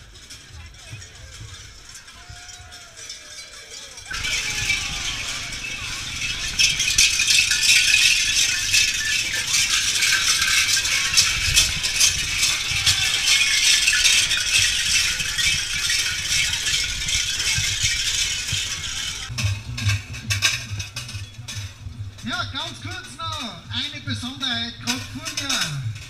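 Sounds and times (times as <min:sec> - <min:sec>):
large bells clanging and jangling: 0:00.0 - 0:26.0.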